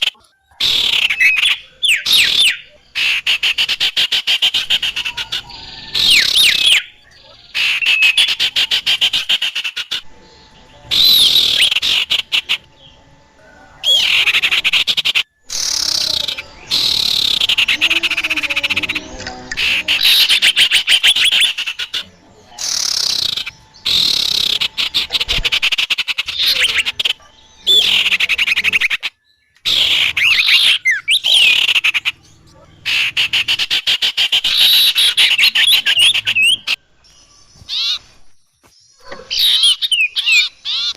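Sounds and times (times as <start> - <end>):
small birds calling: 0.0 - 40.9.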